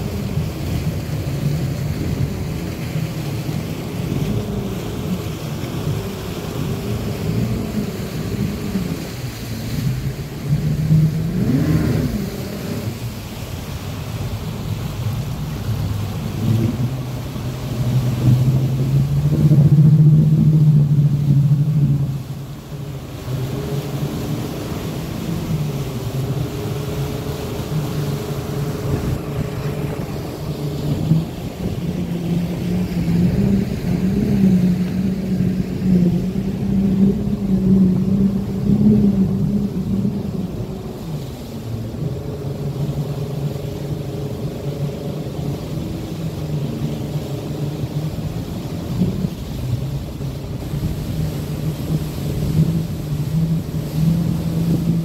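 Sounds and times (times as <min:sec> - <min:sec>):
engines touching river bottom: 0:00.0 - 0:55.0
outboard motors running: 0:00.0 - 0:55.0.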